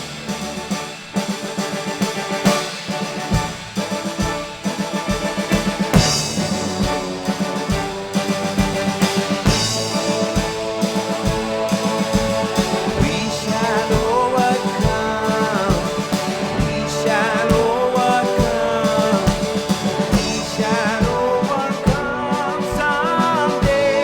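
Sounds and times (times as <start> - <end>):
drum kit beat: 0.0 - 24.0
live band playing slow song: 0.0 - 24.0.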